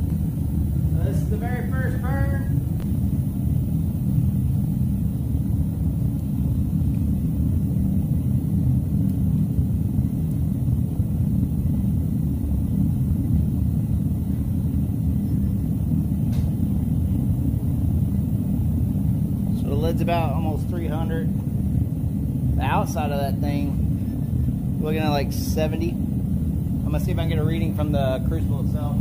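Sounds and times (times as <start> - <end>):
propane burner rumbling: 0.0 - 29.0.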